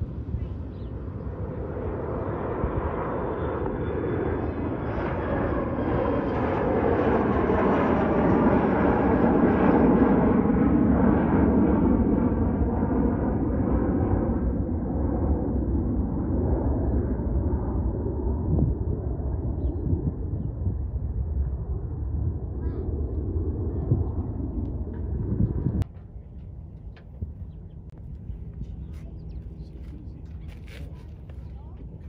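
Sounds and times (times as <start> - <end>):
jet engine rumble: 0.0 - 32.0.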